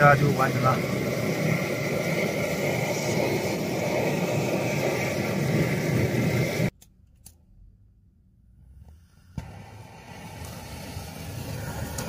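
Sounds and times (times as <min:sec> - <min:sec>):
gas stove burner rushing: 0:00.0 - 0:06.8, 0:08.6 - 0:12.0.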